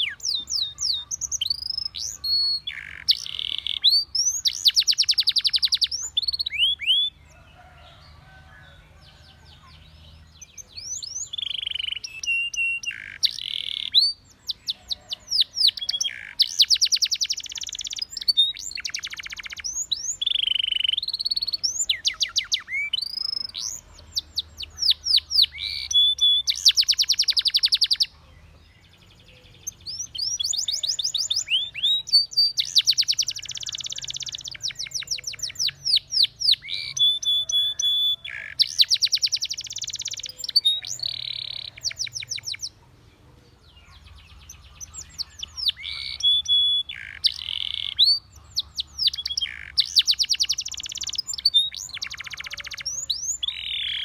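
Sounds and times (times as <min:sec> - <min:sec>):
canary singing high trills: 0:00.0 - 0:08.0, 0:10.4 - 0:28.3, 0:29.6 - 0:42.8, 0:43.8 - 0:54.0.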